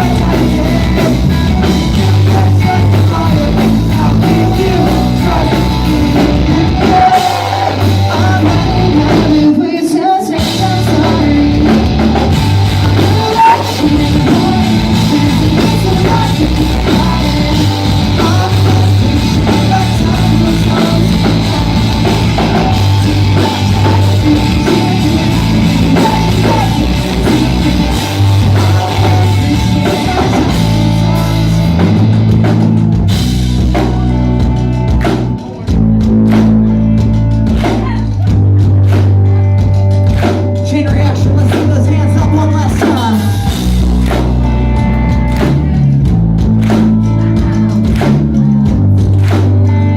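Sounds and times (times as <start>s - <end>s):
pop-punk band playing live: 0.0s - 49.9s.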